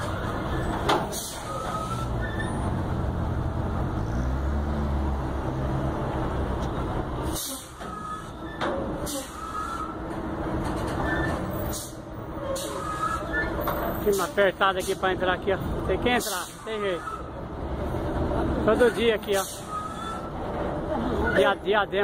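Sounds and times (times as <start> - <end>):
truck diesel engine under load: 0.0 - 22.0.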